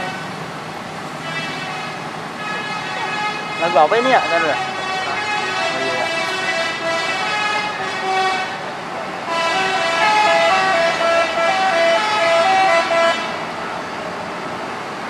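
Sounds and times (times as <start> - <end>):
multi-tone bus horn tune: 0.0 - 0.5, 1.2 - 13.6.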